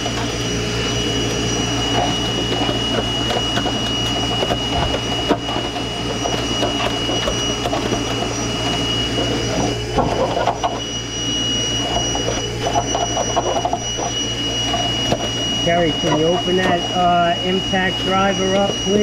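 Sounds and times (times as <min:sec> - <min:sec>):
rustling of tools and hose: 0:00.0 - 0:17.0
machine humming with high whine: 0:00.0 - 0:19.0.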